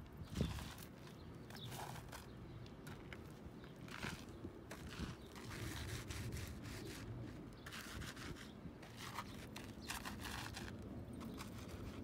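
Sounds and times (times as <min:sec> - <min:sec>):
shoes scraping on gritty dirt: 0:00.0 - 0:12.0.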